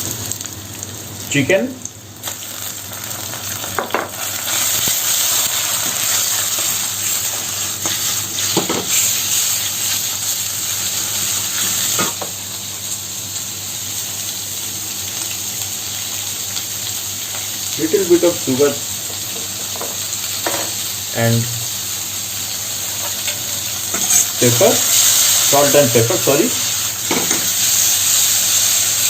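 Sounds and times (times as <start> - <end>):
chicken sizzling in a wok: 0.0 - 29.0.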